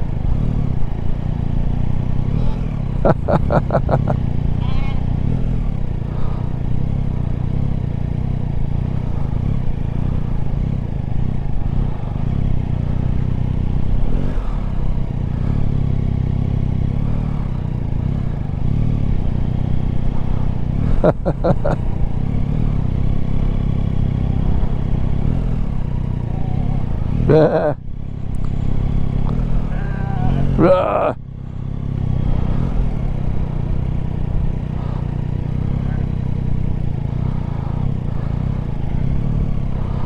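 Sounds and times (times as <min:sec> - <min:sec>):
motorcycle engine running slowly: 0:00.0 - 0:40.0.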